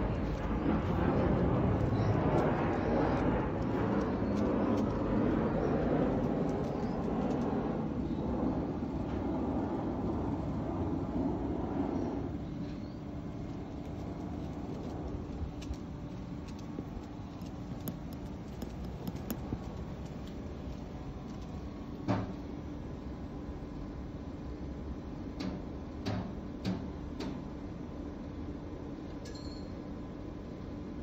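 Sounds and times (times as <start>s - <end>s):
distant traffic hum: 0.0s - 29.2s.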